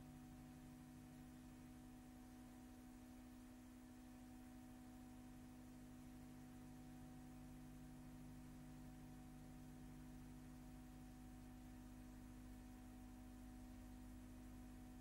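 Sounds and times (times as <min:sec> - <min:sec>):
faint hum with hiss: 0:00.0 - 0:15.0.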